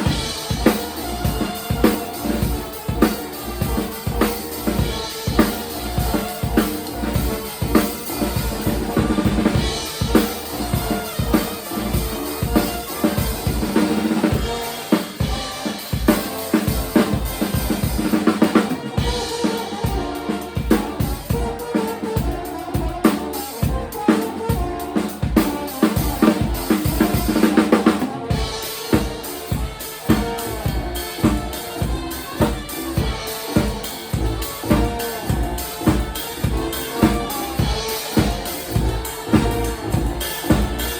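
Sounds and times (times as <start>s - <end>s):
kick and snare drum beat: 0.0s - 40.9s
live band playing: 0.0s - 40.9s.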